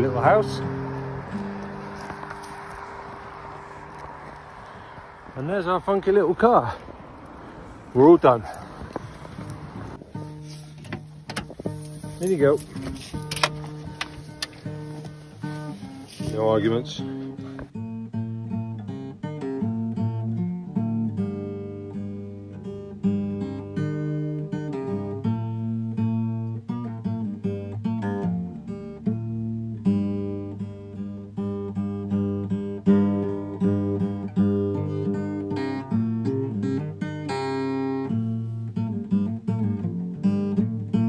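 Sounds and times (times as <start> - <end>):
acoustic guitar strumming: 0.0 - 4.4, 9.3 - 41.0.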